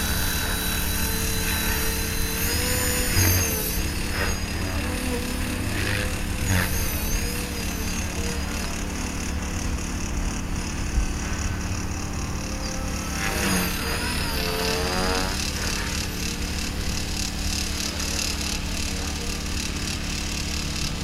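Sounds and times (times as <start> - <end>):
model aircraft electric motor buzzing: 0.0 - 21.0.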